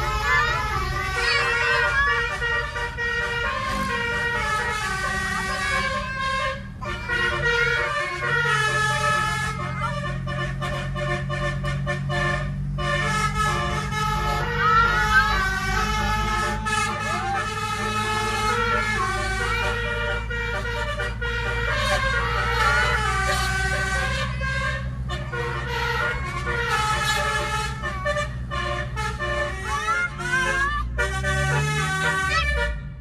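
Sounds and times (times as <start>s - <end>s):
air horn playing a melody: 0.0s - 32.8s.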